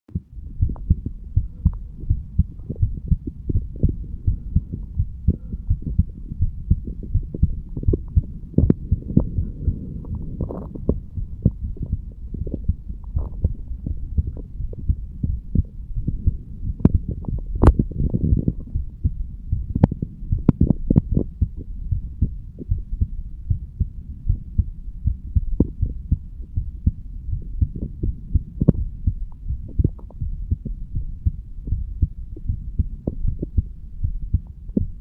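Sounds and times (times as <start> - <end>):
heartbeat thumps: 0.1 - 35.0
sharp heart clicks: 0.2 - 35.0.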